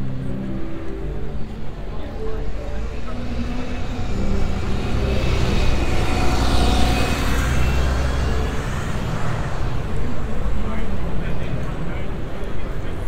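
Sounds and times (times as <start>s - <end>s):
bus engine rumbling: 0.0s - 13.0s
street traffic noise: 0.0s - 13.0s.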